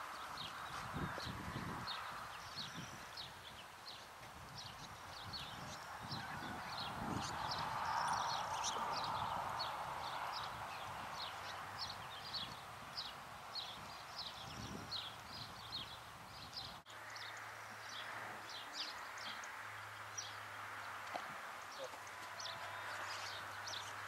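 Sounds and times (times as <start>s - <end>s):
small birds chirping: 0.0s - 24.0s
steady outdoor hiss: 0.0s - 24.0s.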